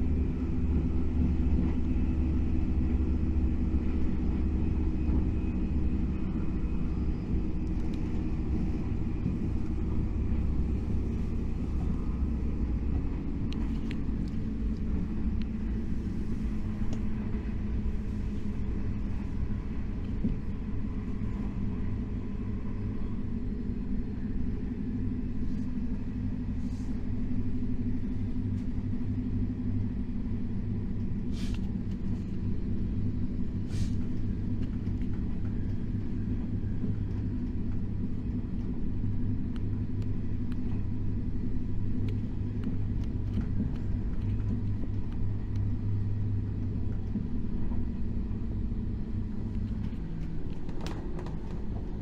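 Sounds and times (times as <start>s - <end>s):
train rumbling from inside carriage: 0.0s - 52.0s.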